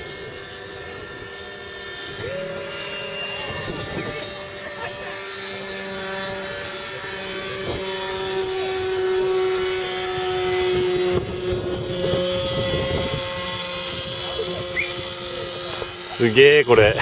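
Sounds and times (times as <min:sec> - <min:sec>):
small propeller motor whining: 0:00.0 - 0:17.0.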